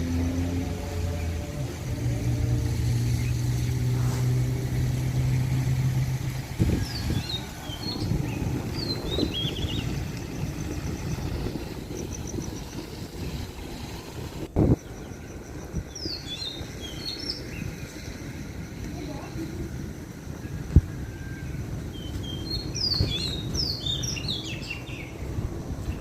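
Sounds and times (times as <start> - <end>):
birds chirping: 0.0 - 13.9, 14.6 - 26.0
passing vehicle engine hum: 0.0 - 26.0.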